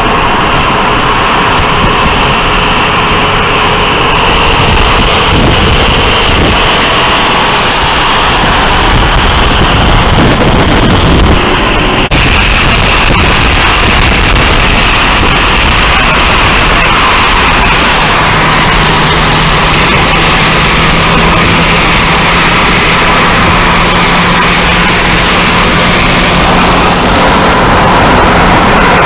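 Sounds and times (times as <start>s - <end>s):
car engine running: 0.0s - 29.0s
car road and wind noise: 0.0s - 29.0s.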